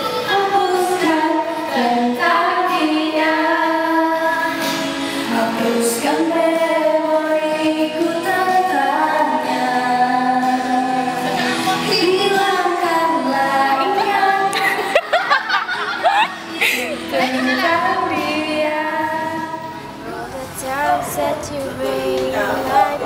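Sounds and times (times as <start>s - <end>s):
woman singing slow melody: 0.0s - 15.3s, 16.0s - 23.0s.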